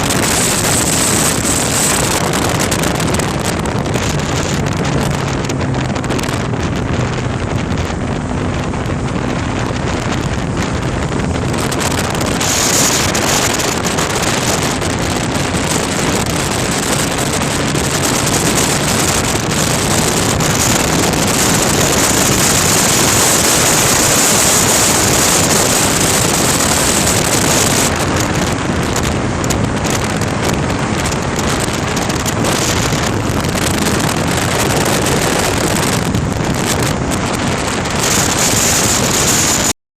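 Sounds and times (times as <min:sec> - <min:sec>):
vehicle driving: 0:00.0 - 0:39.7
wind buffeting microphone: 0:00.0 - 0:39.7.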